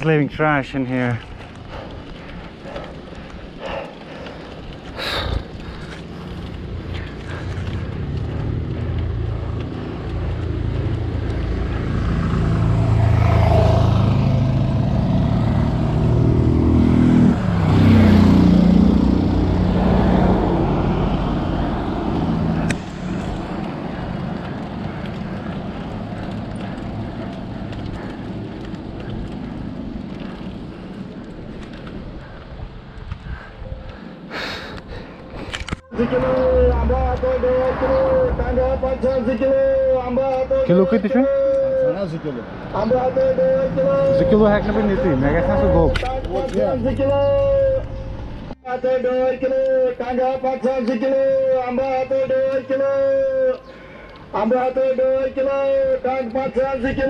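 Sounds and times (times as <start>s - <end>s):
vehicle engine passing: 1.4s - 32.9s, 33.7s - 55.8s.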